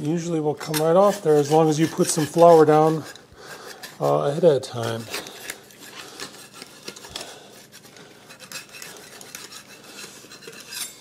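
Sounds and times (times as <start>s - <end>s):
pizza cutter scraping pan: 0.6s - 11.0s.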